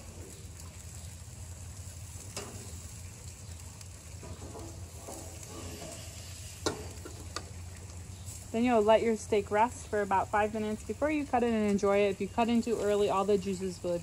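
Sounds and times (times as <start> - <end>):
steaks sizzling on grill: 0.0 - 14.0.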